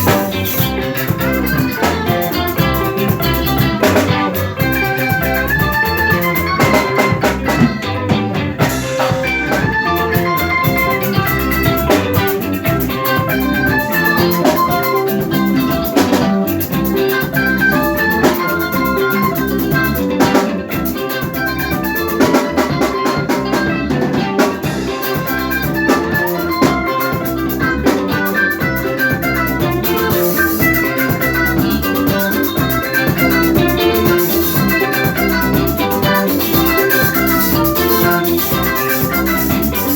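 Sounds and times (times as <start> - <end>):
drum kit beat: 0.0 - 39.9
melodic guitar lines: 0.0 - 39.9.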